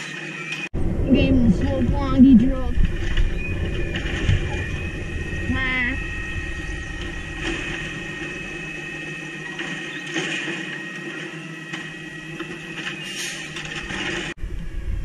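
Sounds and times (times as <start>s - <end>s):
high whine: 0.0s - 15.0s
truck engine running: 0.7s - 14.5s.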